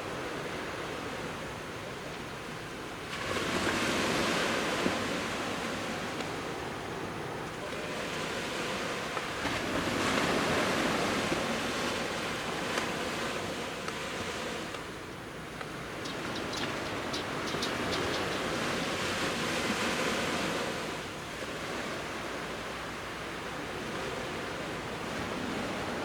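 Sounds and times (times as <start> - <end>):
sea waves breaking on a beach: 0.0 - 26.0.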